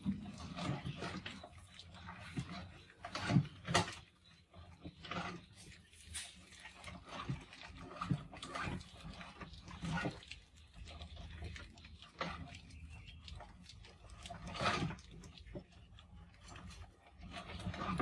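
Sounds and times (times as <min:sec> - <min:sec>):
mice scratching on glass and mesh: 0:00.3 - 0:18.0.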